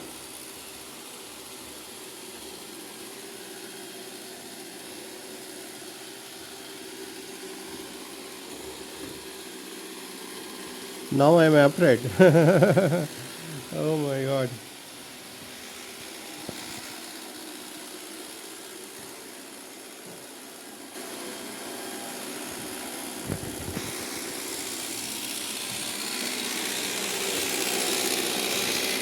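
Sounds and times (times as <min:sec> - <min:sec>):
robot vacuum whirring: 0:00.0 - 0:29.0.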